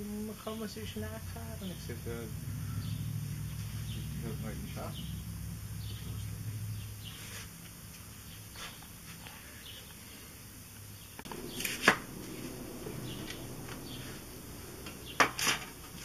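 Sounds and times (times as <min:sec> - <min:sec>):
low hum: 0:00.0 - 0:08.5, 0:11.2 - 0:16.0.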